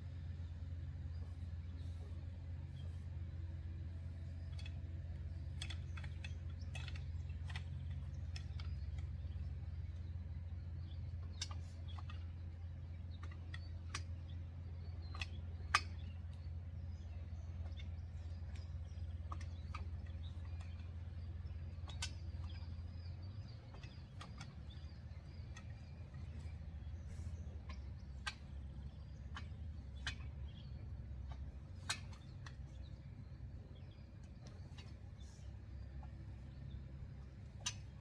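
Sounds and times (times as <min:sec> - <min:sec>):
birds chirping faintly: 0:00.0 - 0:38.0
steady low rumble: 0:00.0 - 0:38.0.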